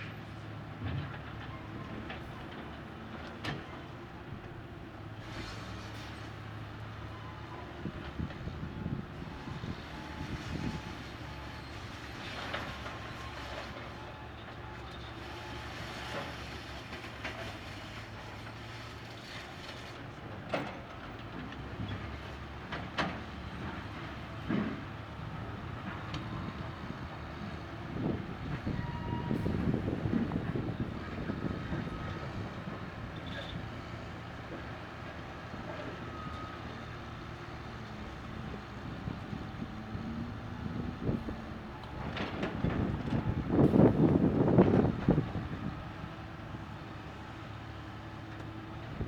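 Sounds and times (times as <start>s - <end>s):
excavator diesel engine running: 6.3s - 49.0s.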